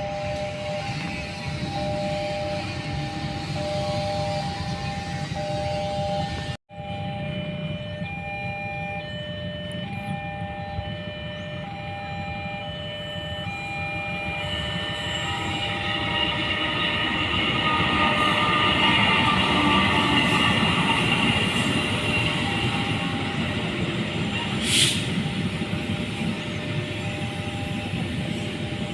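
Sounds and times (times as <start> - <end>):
train passing: 0.0 - 28.9
two-tone electronic warning alarm: 0.0 - 28.9.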